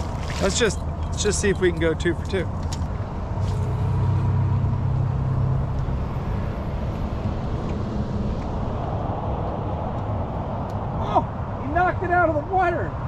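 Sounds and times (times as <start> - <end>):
low motor hum: 0.0 - 11.0
outdoor rumble: 0.0 - 12.2.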